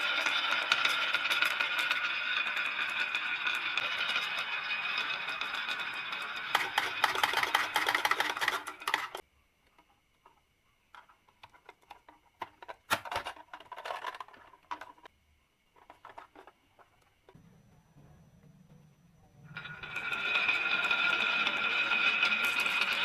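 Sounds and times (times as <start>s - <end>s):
marbles rolling on wooden track: 0.0s - 9.2s, 10.9s - 15.1s, 15.8s - 17.4s, 19.5s - 23.0s.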